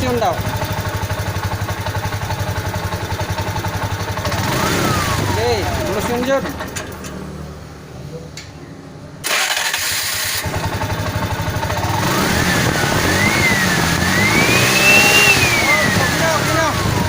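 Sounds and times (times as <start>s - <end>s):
three-wheeler engine revving: 0.0s - 7.6s, 9.2s - 17.0s.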